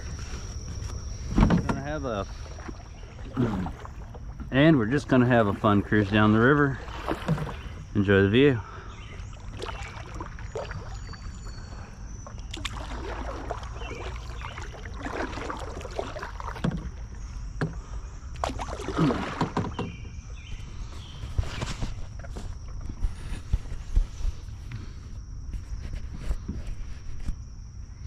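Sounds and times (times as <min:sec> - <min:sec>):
paddle strokes splashing: 0:00.0 - 0:24.5.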